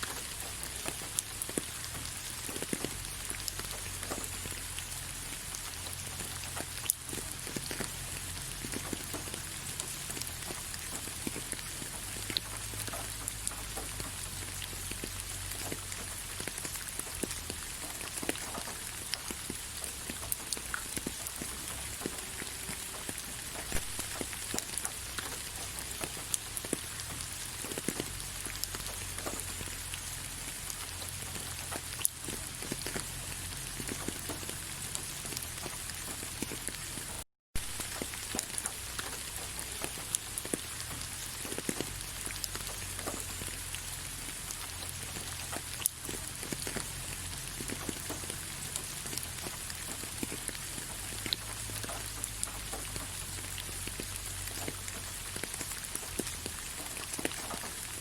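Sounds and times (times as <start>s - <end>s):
rain falling on leaves: 0.0s - 58.0s
raindrops ticking: 0.0s - 58.0s.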